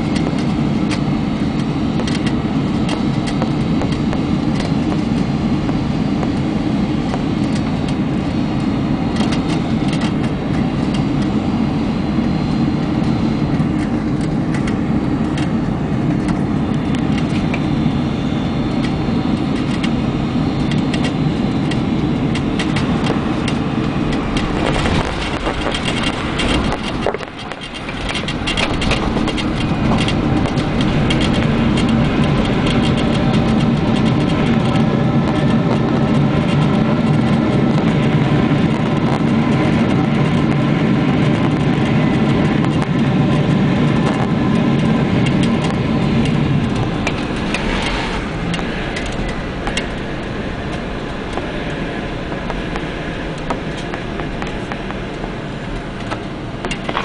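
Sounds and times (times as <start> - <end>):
aircraft engine and airflow rumble: 0.0 - 57.0.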